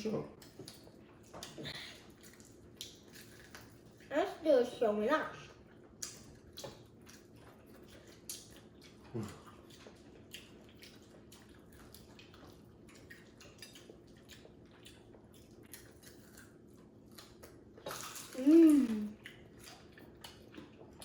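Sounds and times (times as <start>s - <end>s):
chewing sounds: 0.4s - 4.4s, 5.3s - 21.0s.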